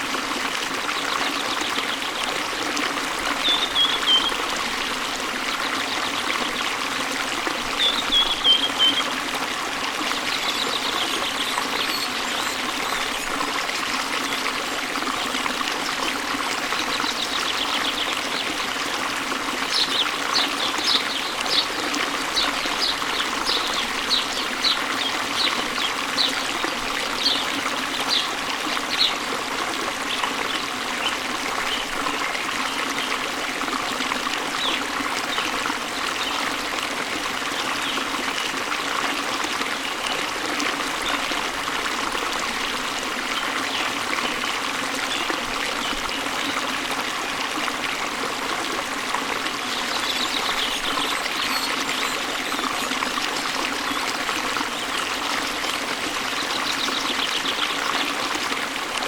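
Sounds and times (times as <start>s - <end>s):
waterfall rushing into stream: 0.0s - 59.0s.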